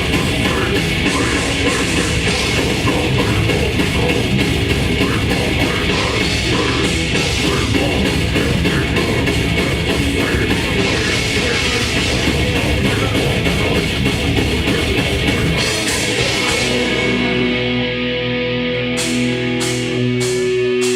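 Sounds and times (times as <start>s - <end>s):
fast dense drumming: 0.0s - 17.4s
distorted guitars and bass: 0.0s - 20.9s.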